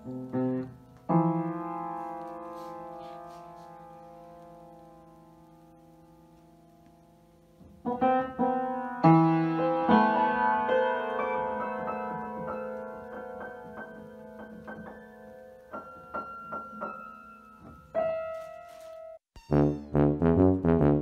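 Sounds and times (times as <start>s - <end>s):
piano notes from cat walking: 0.0s - 21.0s.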